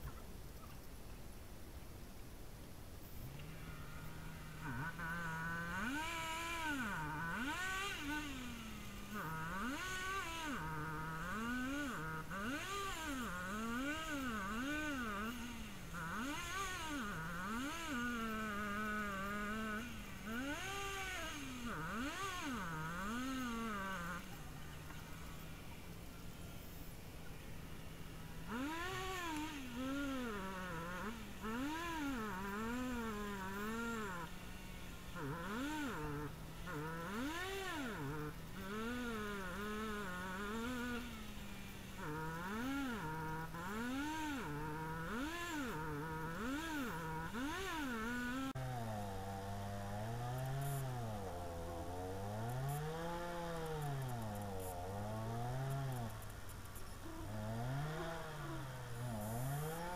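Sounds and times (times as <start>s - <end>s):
chainsaw cutting wood: 3.2s - 59.9s.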